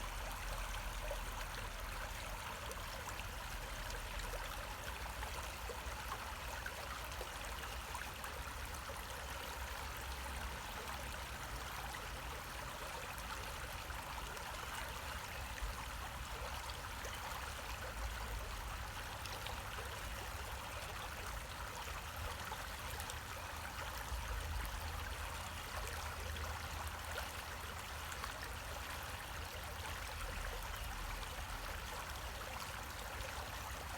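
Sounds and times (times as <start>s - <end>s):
creek flowing: 0.0s - 33.9s.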